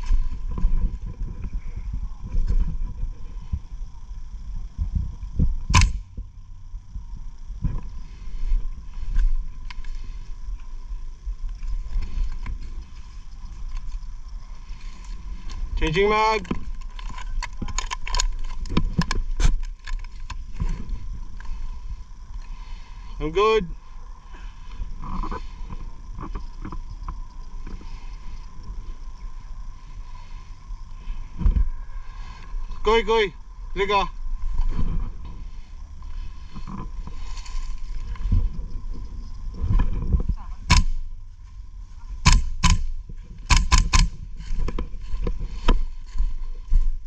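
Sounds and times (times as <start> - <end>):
faint steady tone: 0.0 - 43.5
low wind rumble on microphone: 0.0 - 47.0.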